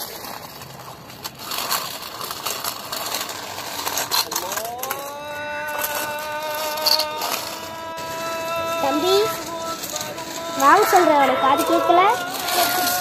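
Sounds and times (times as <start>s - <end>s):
toy car wheels grinding on concrete: 0.0s - 13.0s.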